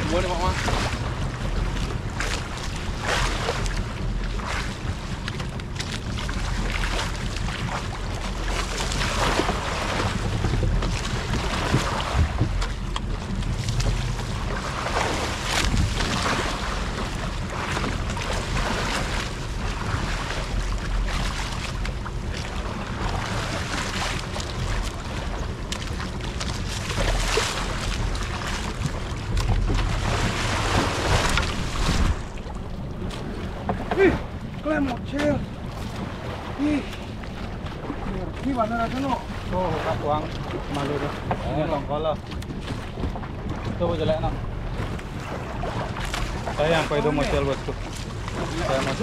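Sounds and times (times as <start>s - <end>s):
sea wash: 0.0s - 49.0s
steady low rumble: 0.0s - 49.0s
wind buffeting microphone: 0.0s - 49.0s.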